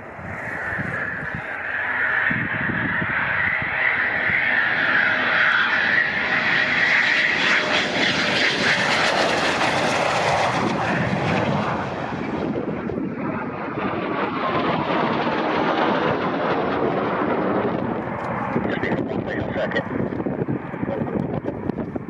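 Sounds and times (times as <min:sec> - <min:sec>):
jet engine whine and rush: 0:00.0 - 0:22.0.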